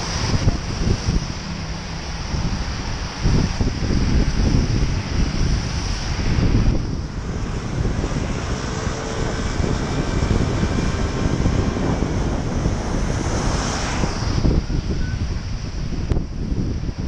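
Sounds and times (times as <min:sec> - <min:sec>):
passing motor traffic: 0:00.0 - 0:17.0
tyres hissing on wet road: 0:00.0 - 0:17.0
wind buffeting microphone: 0:00.0 - 0:17.0.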